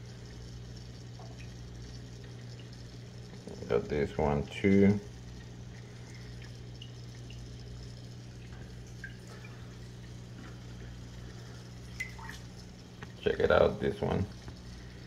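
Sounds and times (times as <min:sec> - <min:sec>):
low electrical hum: 0:00.0 - 0:15.0
water trickling and dripping: 0:00.0 - 0:15.0.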